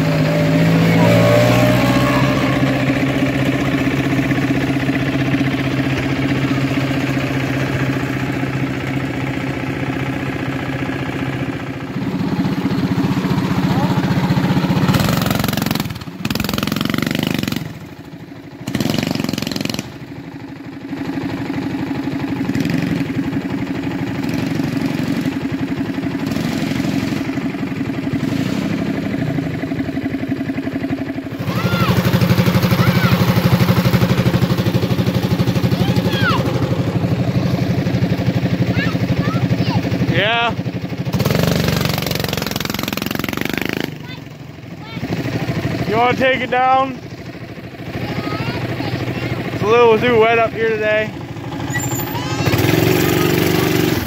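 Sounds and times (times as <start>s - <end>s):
off-road vehicle engine idling: 0.0s - 54.0s.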